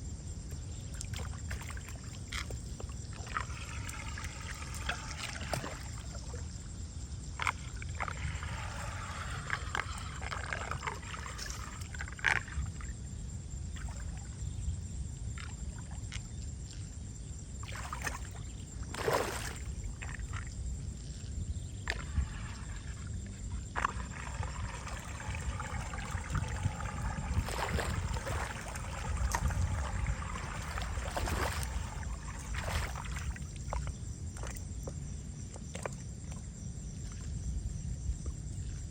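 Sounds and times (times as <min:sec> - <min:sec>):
water trickling and sloshing: 0:00.0 - 0:38.9.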